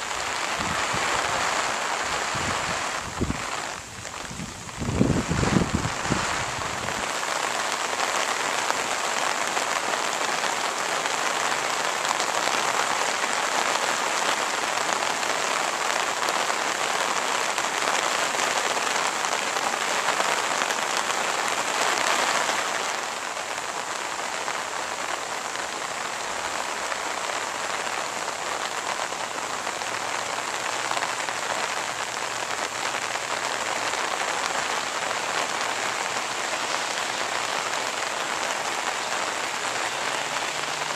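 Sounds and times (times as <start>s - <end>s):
steady hiss of water: 0.0s - 40.9s.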